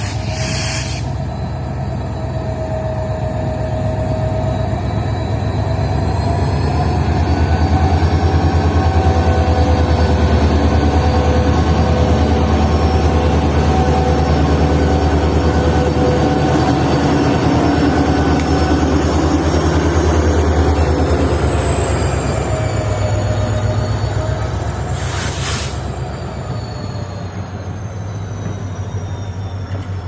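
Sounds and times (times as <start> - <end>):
train rumbling over track: 0.0 - 30.0
wheel squeal: 0.0 - 30.0.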